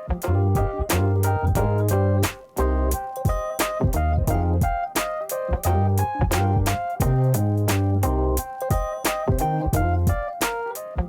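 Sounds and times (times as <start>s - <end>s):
piano chords with bass and drums: 0.0s - 11.0s.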